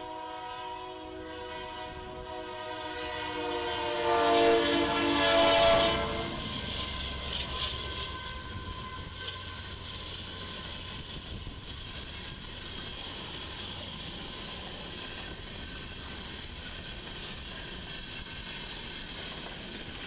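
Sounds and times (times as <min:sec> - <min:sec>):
train rolling past: 0:01.1 - 0:20.0.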